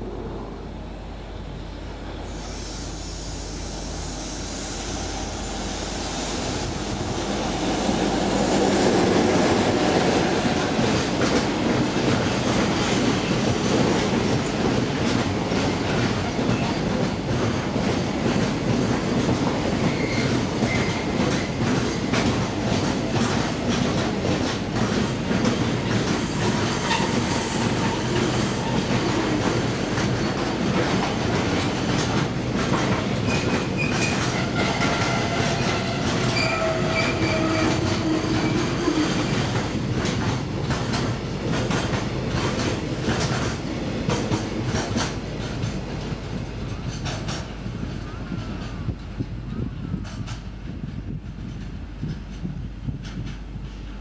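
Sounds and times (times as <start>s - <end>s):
train wheels clicking over rail joints: 6.6s - 54.0s.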